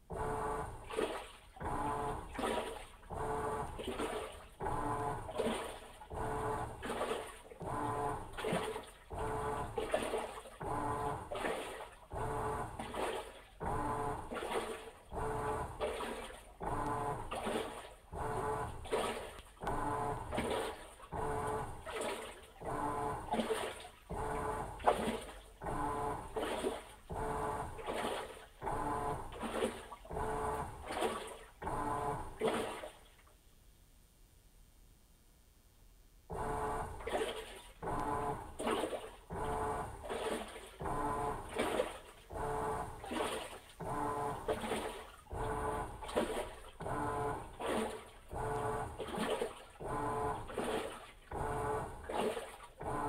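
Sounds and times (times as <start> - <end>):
washing machine motor hum: 0.0 - 32.9, 36.3 - 53.0
water sloshing: 0.1 - 33.4, 36.3 - 53.0.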